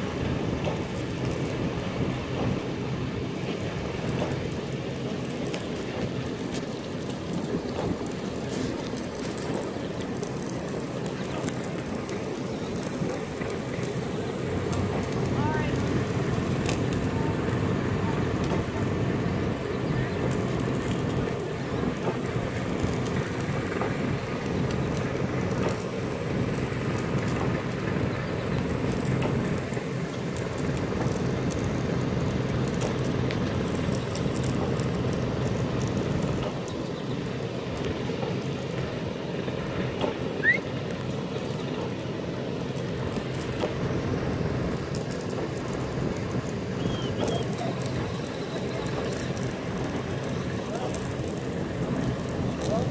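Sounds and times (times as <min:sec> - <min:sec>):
engine and pump droning: 0:00.0 - 0:52.9.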